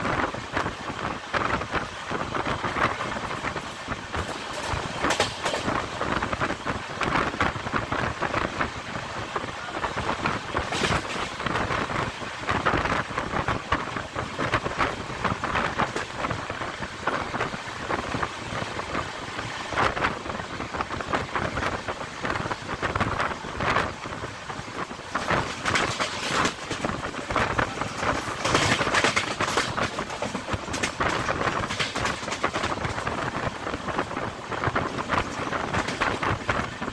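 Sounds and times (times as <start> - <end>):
train wheels clattering on rails: 0.0 - 36.9.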